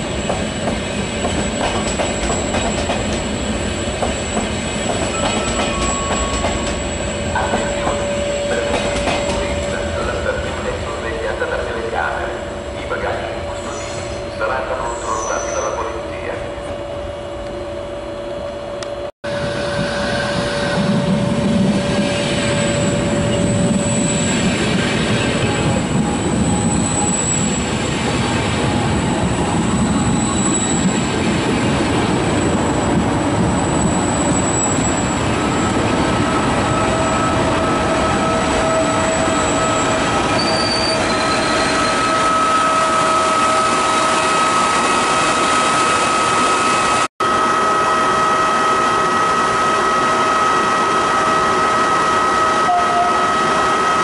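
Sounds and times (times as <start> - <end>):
train wheels rumbling on rail: 0.0 - 16.7, 18.7 - 54.0
high whine of train wheels: 0.0 - 54.0.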